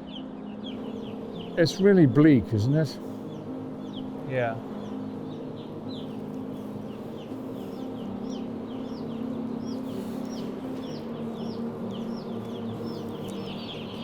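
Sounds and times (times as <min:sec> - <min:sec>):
chicks peeping: 0:00.0 - 0:14.0
low machine hum: 0:00.0 - 0:14.0.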